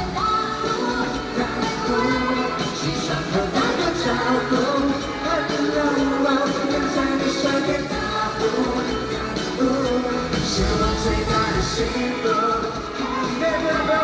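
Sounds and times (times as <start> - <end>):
live pop band: 0.0 - 14.0
person singing: 0.0 - 14.0.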